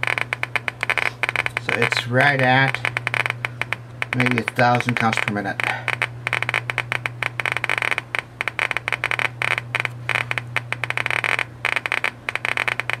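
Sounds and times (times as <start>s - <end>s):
geiger counter clicking rapidly: 0.0s - 13.0s
steady low hum: 0.0s - 13.0s.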